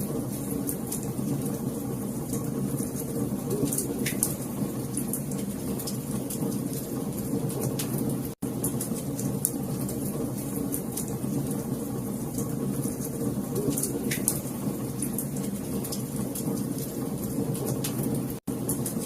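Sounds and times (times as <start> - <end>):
wood fire burning: 0.0 - 19.0.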